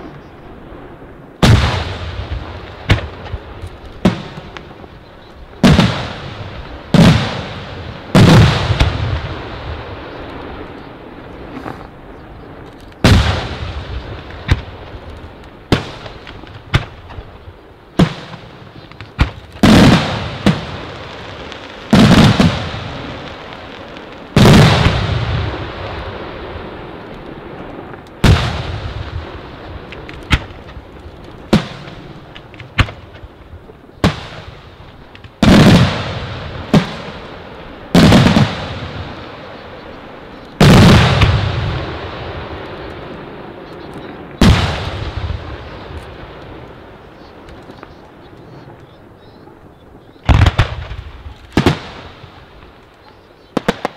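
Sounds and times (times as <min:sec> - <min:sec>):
sharp firework cracks: 0:00.8 - 0:04.9, 0:05.6 - 0:10.8, 0:12.8 - 0:33.4, 0:34.0 - 0:48.0, 0:50.2 - 0:53.9.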